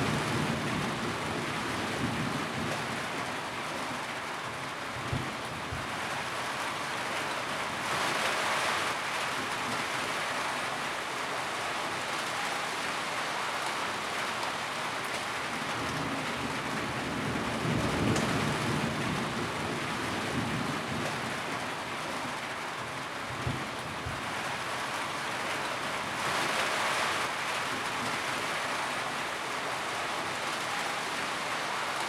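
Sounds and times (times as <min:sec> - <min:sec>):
rain on a tin roof: 0:00.0 - 0:32.0.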